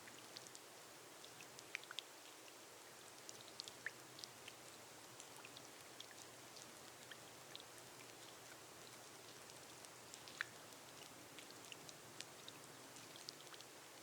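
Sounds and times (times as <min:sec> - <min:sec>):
rain on a glass roof: 0:00.0 - 0:14.0
raindrops ticking: 0:00.0 - 0:14.0.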